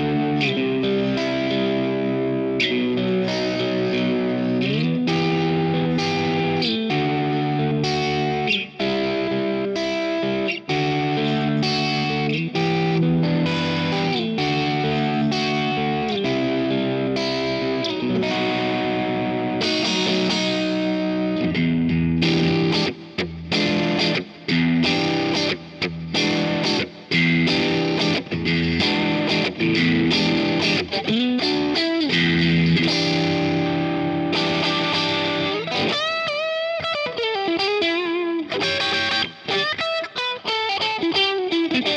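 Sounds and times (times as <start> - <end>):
overdriven electric guitar chords: 0.0 - 41.9.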